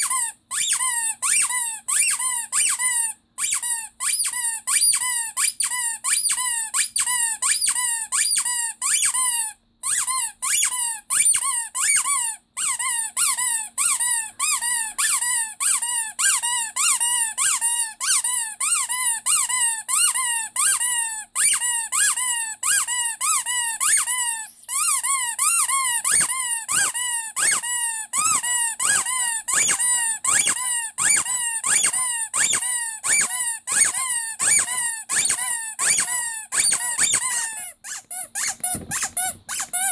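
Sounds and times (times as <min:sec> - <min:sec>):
rubber squeaky toy squeaking: 0:00.0 - 0:39.9.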